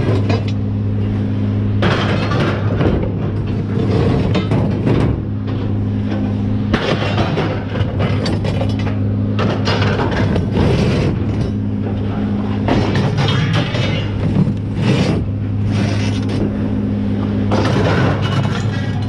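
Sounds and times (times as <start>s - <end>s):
scrap metal clanking and banging: 0.0s - 0.6s, 1.8s - 16.6s, 17.5s - 19.0s
engine running: 0.0s - 19.0s.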